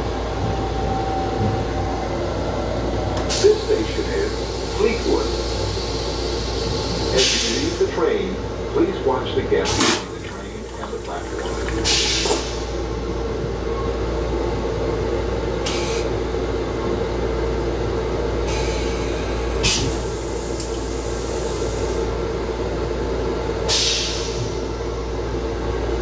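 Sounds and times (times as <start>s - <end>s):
railcar rumble and hum: 0.0s - 26.0s.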